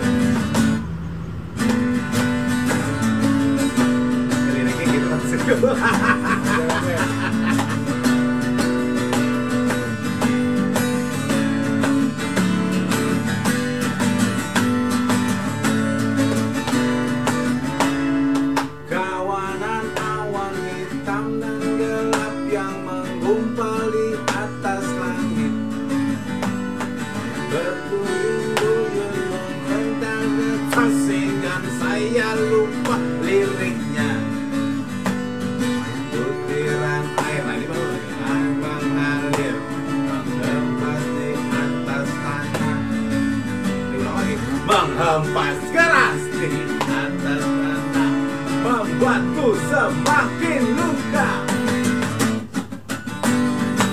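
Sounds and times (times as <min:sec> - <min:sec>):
acoustic guitar chords: 0:00.0 - 0:53.9.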